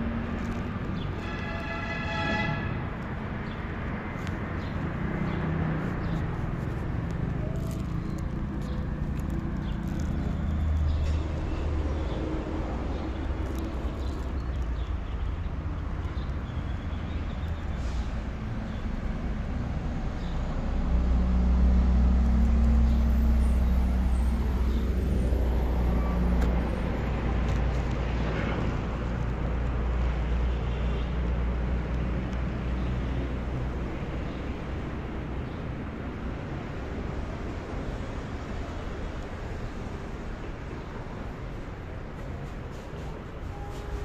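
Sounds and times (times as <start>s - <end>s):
road traffic: 0.0s - 44.0s.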